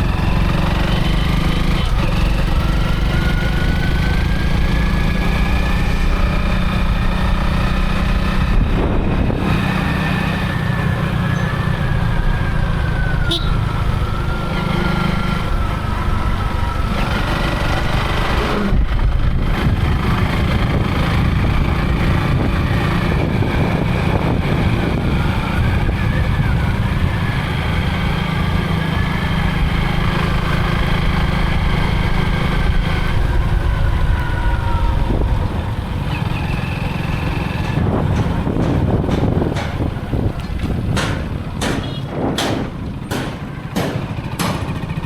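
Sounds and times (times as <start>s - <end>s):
motorcycle engine running: 0.0s - 45.0s
road noise: 0.0s - 45.0s.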